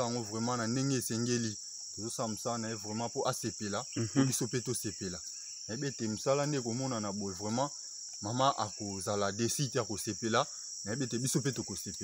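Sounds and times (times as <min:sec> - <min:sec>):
insects chirring: 0:00.0 - 0:12.0
man talking: 0:00.0 - 0:12.0.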